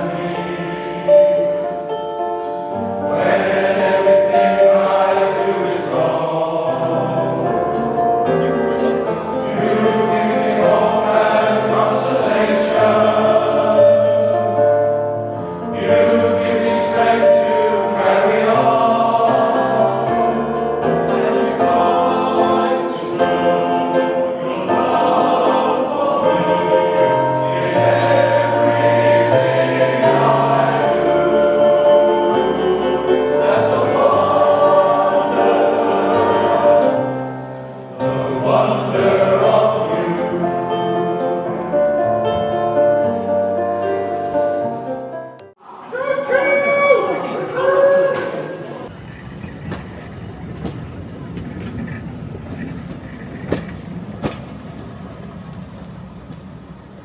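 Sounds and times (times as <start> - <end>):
male choir singing: 0.0 - 48.9.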